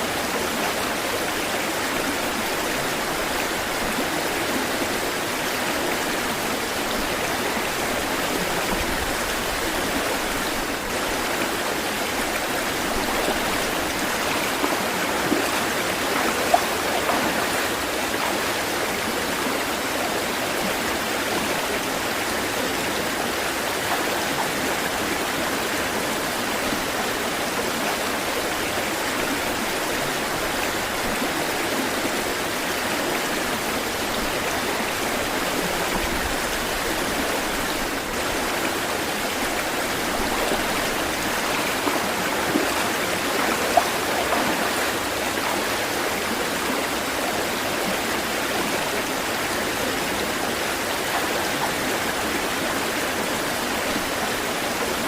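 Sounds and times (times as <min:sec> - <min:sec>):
running water: 0:00.0 - 0:55.0
water splashes: 0:00.1 - 0:55.0.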